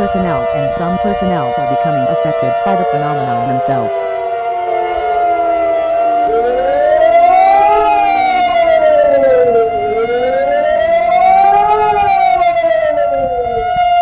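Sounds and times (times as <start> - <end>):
steady held siren tone: 0.0 - 14.0
wailing warning siren: 0.0 - 14.0.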